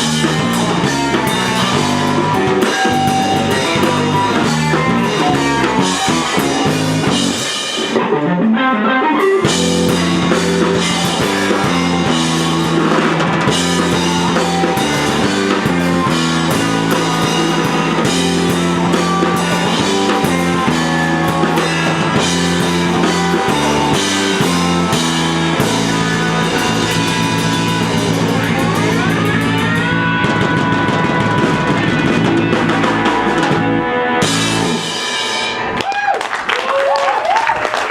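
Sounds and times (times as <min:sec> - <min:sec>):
electric guitar: 0:00.0 - 0:37.9
rock band playing: 0:00.0 - 0:37.9.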